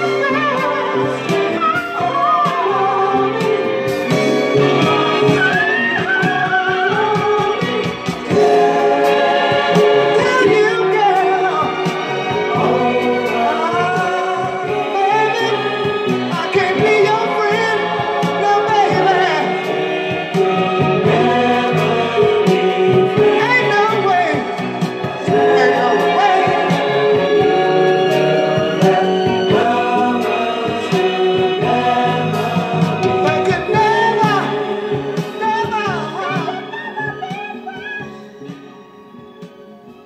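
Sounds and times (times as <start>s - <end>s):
instrumental backing: 0.0s - 40.0s
voices singing sliding notes: 0.0s - 40.0s.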